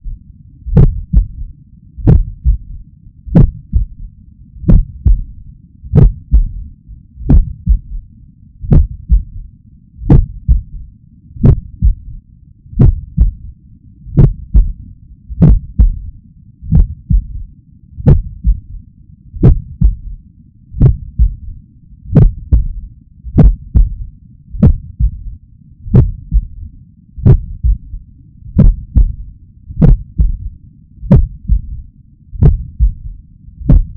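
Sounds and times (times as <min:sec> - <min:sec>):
heartbeat through stethoscope: 0:00.0 - 0:10.8, 0:11.4 - 0:33.9
steady low rumble: 0:00.0 - 0:33.9.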